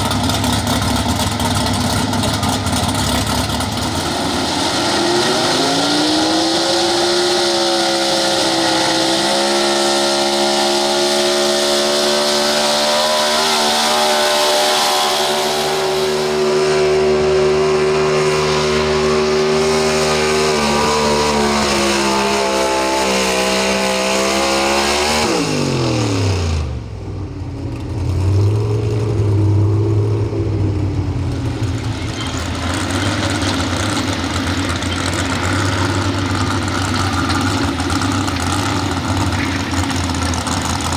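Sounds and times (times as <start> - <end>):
truck engine revving under load: 0.0 - 40.9.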